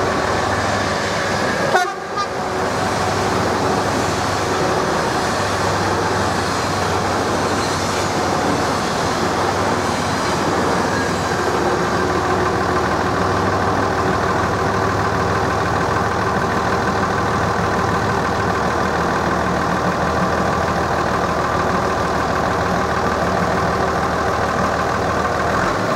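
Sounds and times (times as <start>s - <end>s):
electric train passing: 0.0s - 25.3s
steady background noise: 0.0s - 25.9s.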